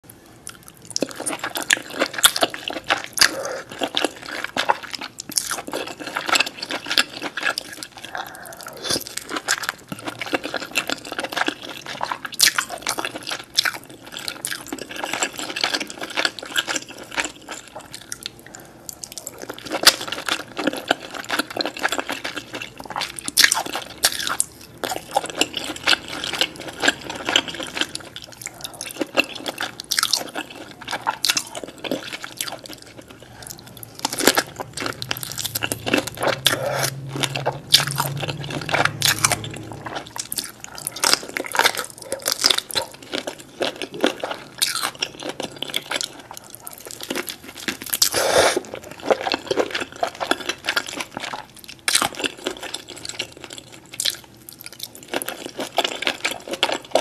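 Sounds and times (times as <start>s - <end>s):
wet chewing and lip-smacking: 0.4s - 57.0s.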